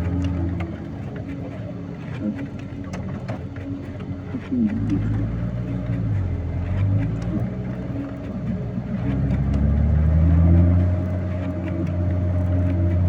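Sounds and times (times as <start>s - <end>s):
deep hum: 0.0s - 13.0s
truck engine running: 0.0s - 13.0s.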